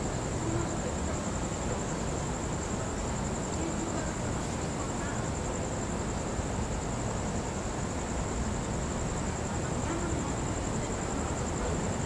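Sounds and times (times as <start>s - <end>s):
high-pitched insect trill: 0.0s - 12.0s
low rumble and hiss: 0.0s - 12.0s.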